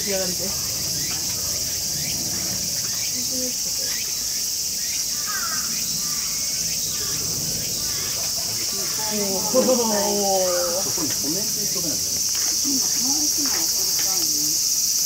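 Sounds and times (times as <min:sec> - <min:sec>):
insects high-pitched drone: 0:00.0 - 0:15.0.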